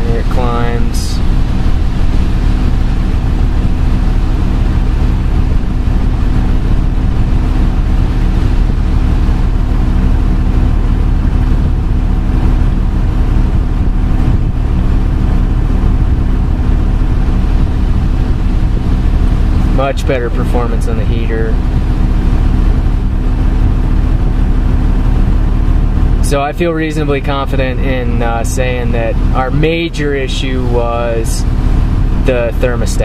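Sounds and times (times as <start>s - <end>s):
diesel engine drone in cab: 0.0s - 33.0s
heater blower fan: 0.0s - 33.0s.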